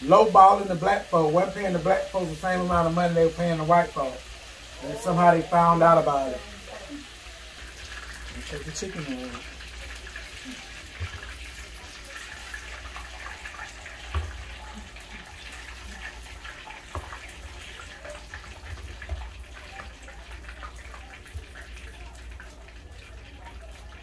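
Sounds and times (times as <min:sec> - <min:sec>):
hot oil sizzling in a skillet: 0:00.0 - 0:24.0.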